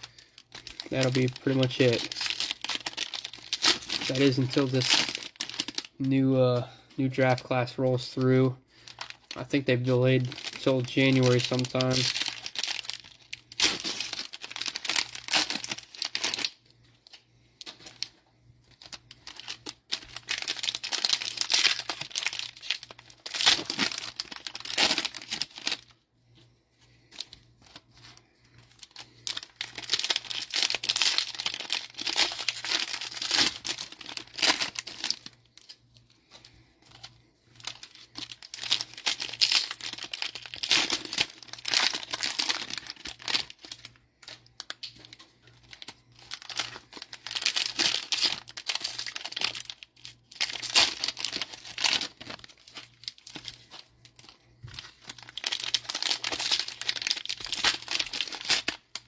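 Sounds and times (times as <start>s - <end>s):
plastic wrappers tearing and crinkling: 0.0s - 26.0s, 27.0s - 59.0s.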